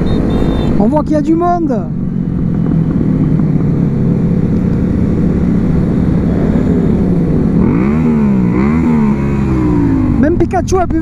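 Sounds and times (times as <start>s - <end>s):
motorcycle engine running: 1.9s - 11.0s.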